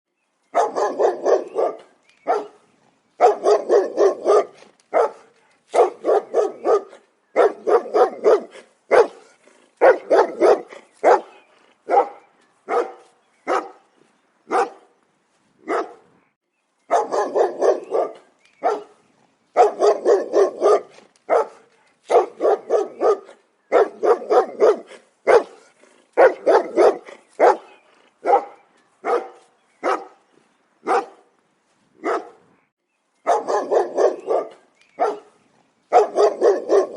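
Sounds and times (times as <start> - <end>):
dog barking: 0.5 - 2.6, 3.2 - 13.8, 14.5 - 14.9, 15.6 - 16.1, 16.9 - 19.0, 19.6 - 30.2, 30.8 - 31.2, 32.0 - 32.4, 33.3 - 36.9.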